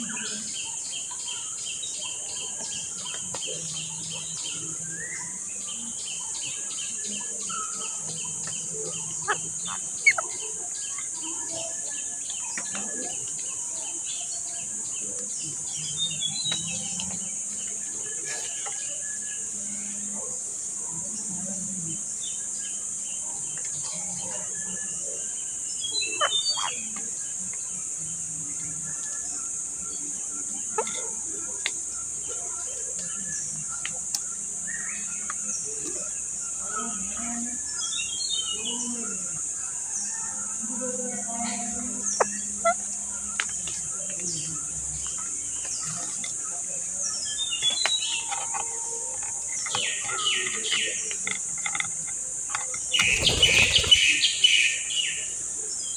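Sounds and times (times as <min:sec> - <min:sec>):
bird chirps: 0:00.0 - 0:20.3, 0:22.2 - 0:39.1, 0:41.6 - 0:55.9
insects buzzing: 0:00.0 - 0:55.9.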